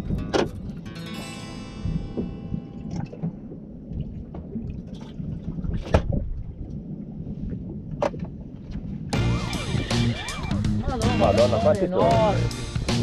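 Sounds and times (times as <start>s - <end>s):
wind rumbling on microphone: 0.0s - 1.0s, 1.6s - 12.8s
water noise: 0.0s - 13.0s.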